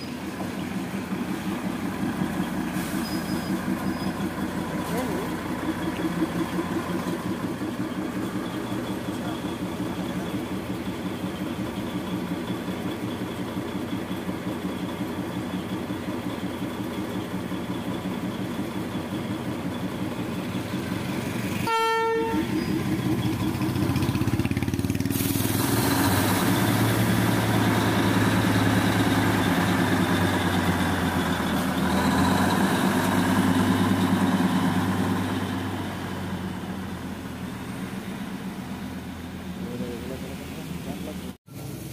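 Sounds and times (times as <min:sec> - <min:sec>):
diesel locomotive engine throbbing: 0:00.0 - 0:41.9.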